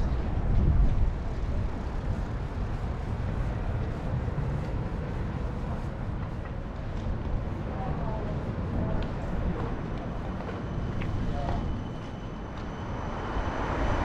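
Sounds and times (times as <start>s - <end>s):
low rumble of vehicle noise: 0.0s - 14.0s.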